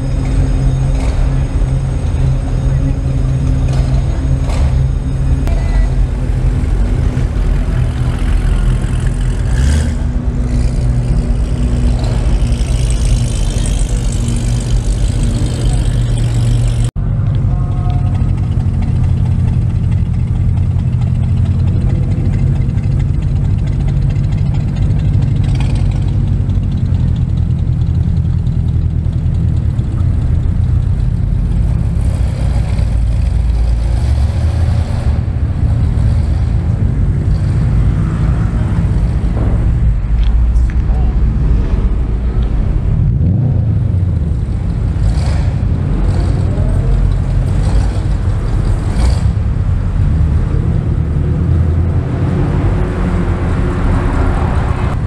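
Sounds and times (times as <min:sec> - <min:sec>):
car engines idling: 0:00.0 - 0:55.0.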